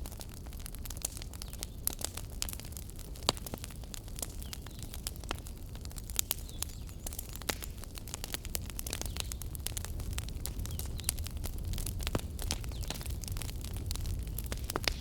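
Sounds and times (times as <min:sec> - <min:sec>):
fire crackles and pops: 0:00.0 - 0:15.0
fire flames rumbling: 0:00.0 - 0:15.0.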